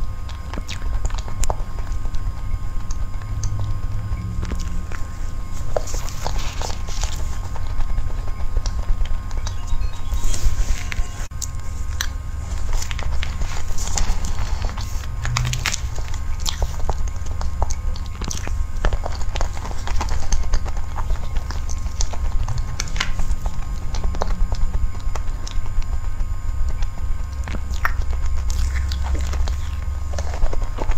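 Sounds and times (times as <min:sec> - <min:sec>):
eating sounds: 0:00.0 - 0:30.9
low microphone rumble: 0:00.0 - 0:30.9.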